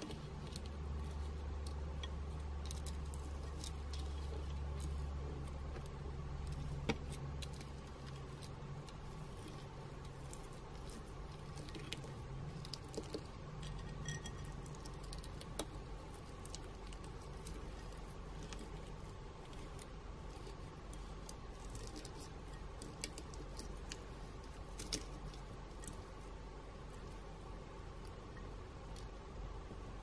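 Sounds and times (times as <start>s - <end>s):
spoon stirring beads in glass dish: 0.0s - 26.2s
faint steady hum: 0.0s - 30.0s.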